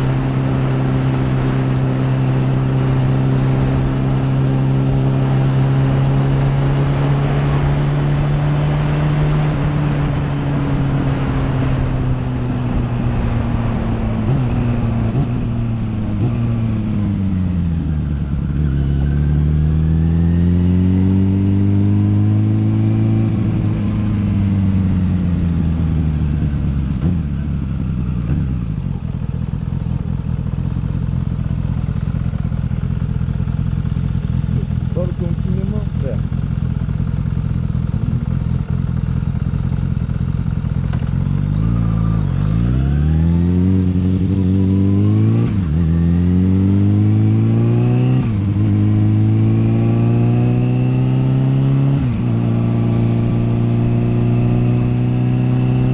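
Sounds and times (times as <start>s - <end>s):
motorcycle engine: 0.0s - 55.9s.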